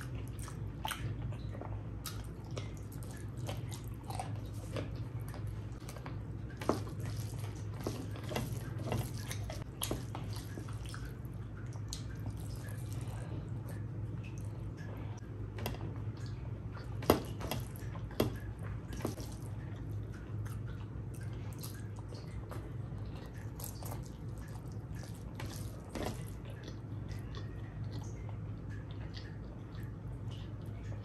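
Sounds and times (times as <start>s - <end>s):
wet chewing and lip smacks: 0.0s - 15.2s, 17.6s - 31.0s.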